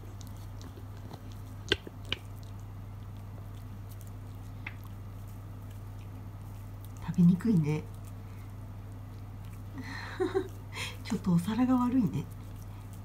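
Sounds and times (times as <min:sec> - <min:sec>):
cat chewing: 0:00.0 - 0:13.0
steady low hum: 0:00.0 - 0:13.0.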